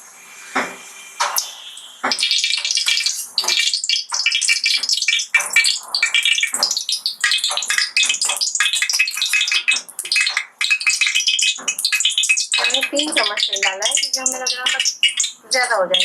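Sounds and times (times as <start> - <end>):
oil sizzling in a pan: 0.0 - 16.0.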